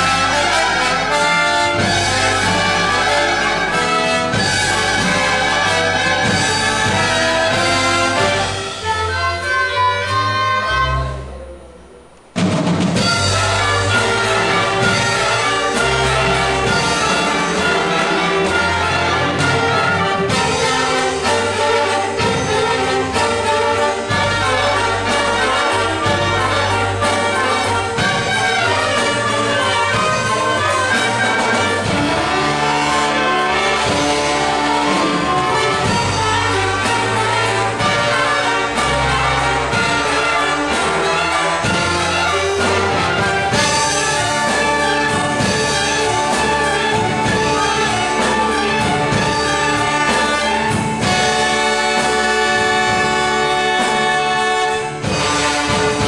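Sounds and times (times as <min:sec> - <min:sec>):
saxophones and trombones melody: 0:00.0 - 0:56.0
wind band playing: 0:00.0 - 0:56.0.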